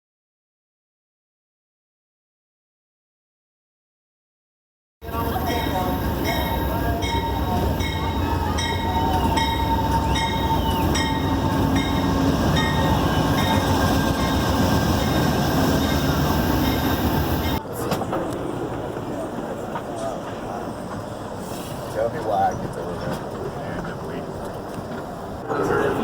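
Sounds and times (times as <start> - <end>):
train rumbling: 5.0 - 26.0.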